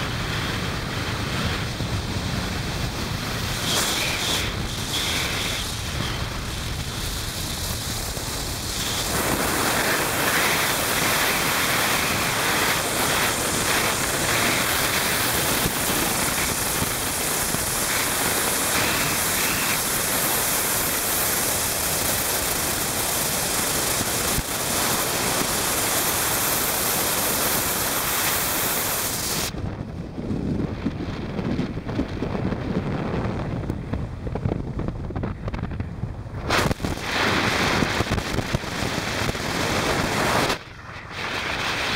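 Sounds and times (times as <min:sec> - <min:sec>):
road noise: 0:00.0 - 0:41.9.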